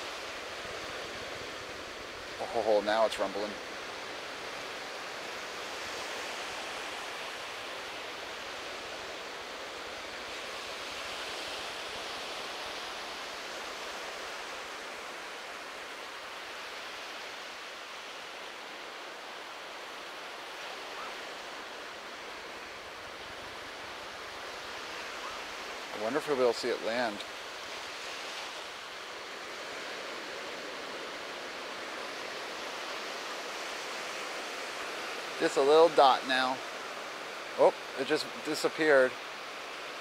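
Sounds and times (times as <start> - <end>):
ocean surf washing on beach: 0.0 - 40.0.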